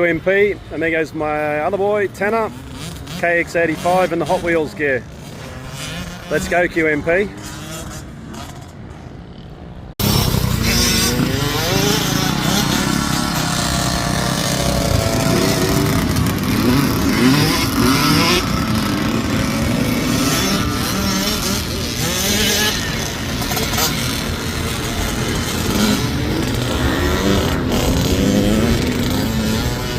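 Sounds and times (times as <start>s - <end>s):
motocross bike engines revving: 0.0s - 29.9s.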